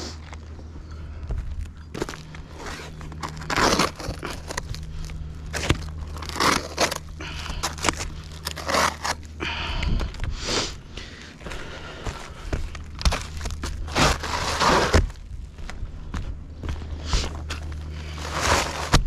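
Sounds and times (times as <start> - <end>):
crunching and scraping of roofing: 0.0 - 19.0
steady low hum: 0.0 - 19.0.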